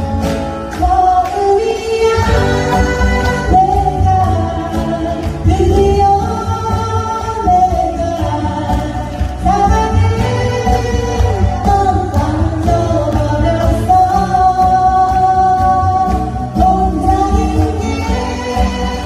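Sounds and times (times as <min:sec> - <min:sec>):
acoustic guitars strumming: 0:00.0 - 0:19.0
woman singing pop song: 0:00.6 - 0:19.0.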